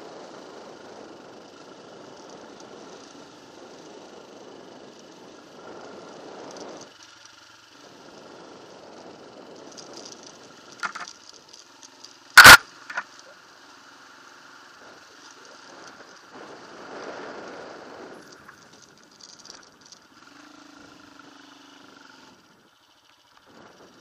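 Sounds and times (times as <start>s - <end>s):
motorbike engine at low revs: 0.0s - 24.0s.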